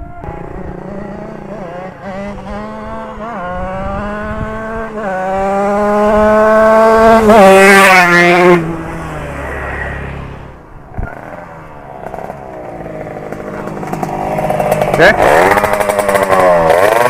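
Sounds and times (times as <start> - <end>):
motorcycle accelerating and passing: 0.0 - 17.0.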